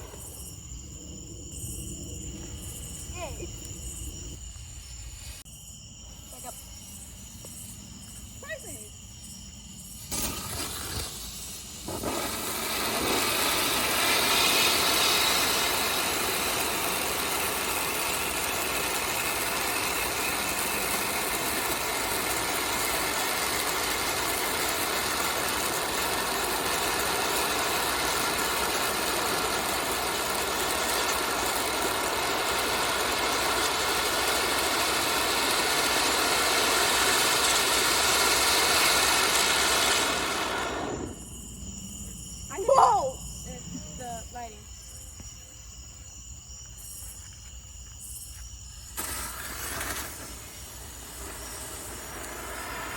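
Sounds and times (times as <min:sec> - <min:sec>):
firework pinwheel hissing: 0:00.0 - 0:05.4, 0:06.4 - 0:41.6, 0:42.5 - 0:44.6, 0:48.7 - 0:52.9.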